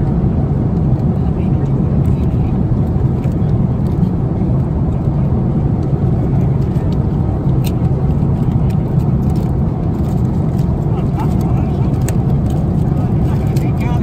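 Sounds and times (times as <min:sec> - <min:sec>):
airplane cabin roar: 0:00.0 - 0:14.0.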